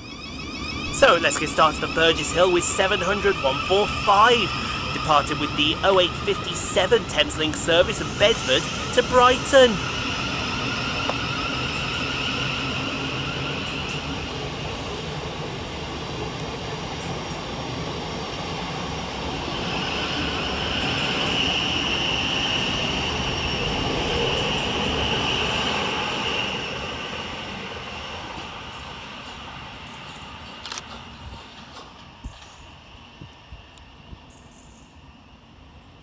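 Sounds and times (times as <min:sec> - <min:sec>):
train high whine: 0:00.0 - 0:36.0
train rolling past: 0:00.0 - 0:36.0.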